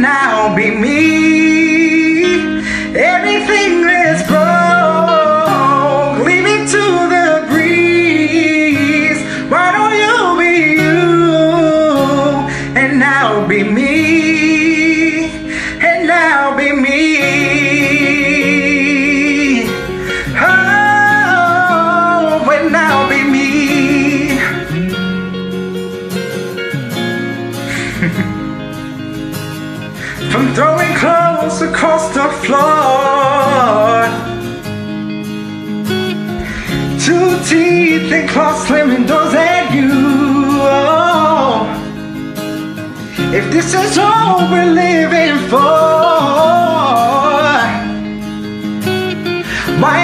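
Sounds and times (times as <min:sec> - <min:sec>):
man singing: 0:00.0 - 0:25.0, 0:30.0 - 0:34.6, 0:36.4 - 0:42.1, 0:43.1 - 0:48.2, 0:49.4 - 0:50.0
acoustic guitar: 0:00.0 - 0:50.0.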